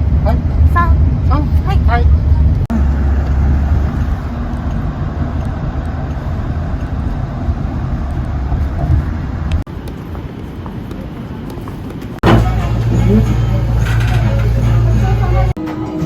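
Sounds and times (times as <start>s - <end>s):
low rumble of traffic: 0.0s - 15.6s.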